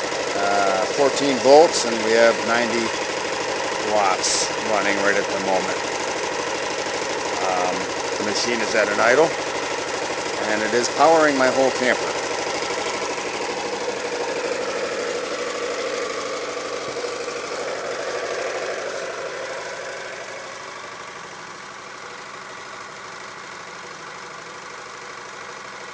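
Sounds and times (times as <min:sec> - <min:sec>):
small engine idling: 0:00.0 - 0:25.9.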